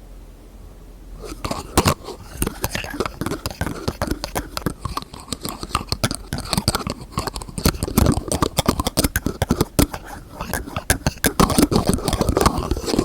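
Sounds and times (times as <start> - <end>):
fingers tapping on containers: 1.2 - 13.0.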